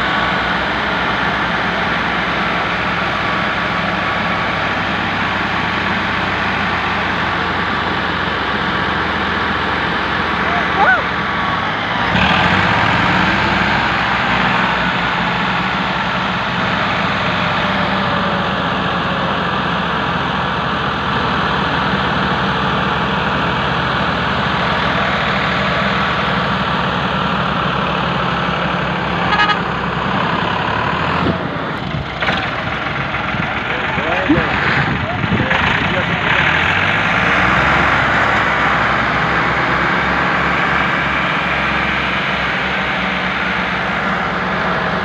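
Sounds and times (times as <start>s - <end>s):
tractor diesel engines under load: 0.0s - 45.0s.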